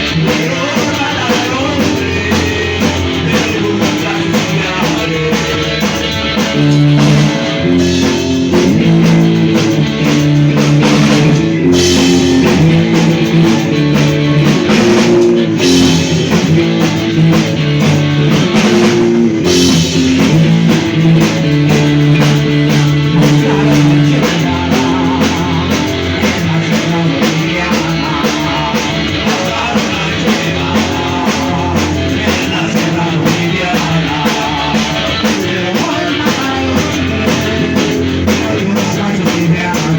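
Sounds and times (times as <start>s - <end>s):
distorted electric guitar chords: 0.0s - 39.9s
pounding drum kit: 0.0s - 39.9s.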